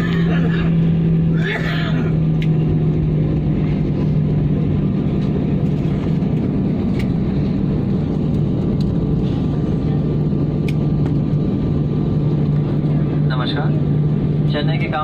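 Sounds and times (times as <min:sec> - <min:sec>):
airliner engine drone: 0:00.0 - 0:15.0.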